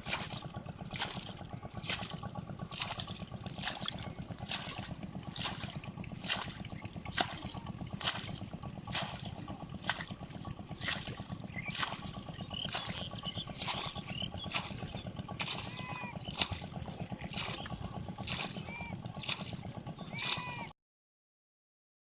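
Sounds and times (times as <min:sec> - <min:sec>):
steady low rumble: 0:00.0 - 0:20.7
water splashing rhythmically: 0:00.0 - 0:20.7.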